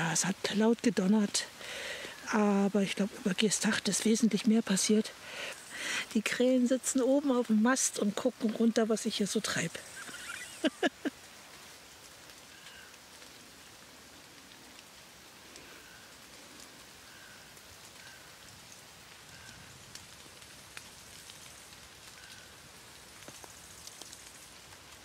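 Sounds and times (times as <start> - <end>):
raindrops ticking: 0.0 - 25.0
soft rain hiss: 0.0 - 25.0.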